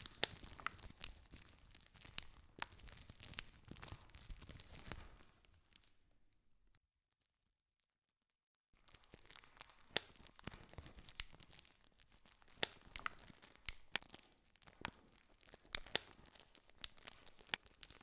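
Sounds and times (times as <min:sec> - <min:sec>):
wood campfire crackling: 0:00.0 - 0:05.9, 0:08.9 - 0:18.0.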